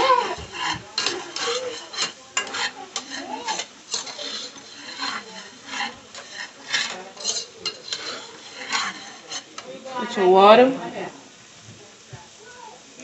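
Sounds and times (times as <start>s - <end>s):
spoon scraping a saucepan: 0.0s - 10.7s.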